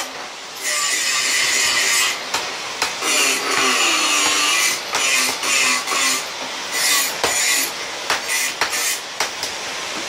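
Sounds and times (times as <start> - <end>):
hammer striking hot steel on anvil: 0.0 - 9.6.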